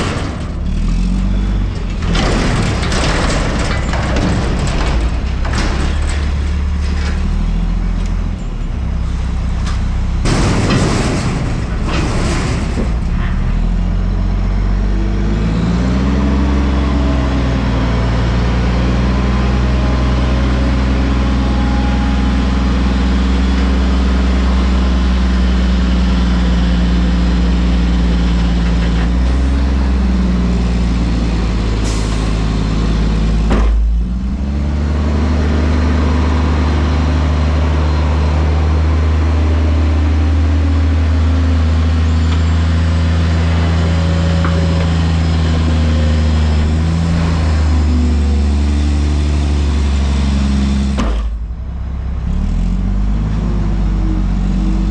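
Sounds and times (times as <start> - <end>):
garbage truck diesel engine revving: 0.0 - 54.9.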